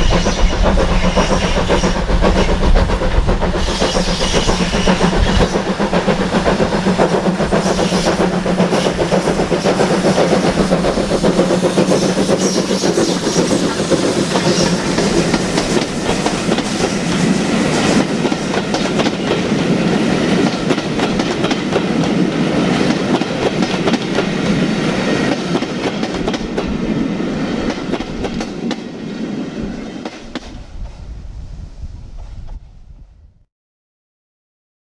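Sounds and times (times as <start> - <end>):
train wheels clattering over rail joints: 0.0 - 30.9.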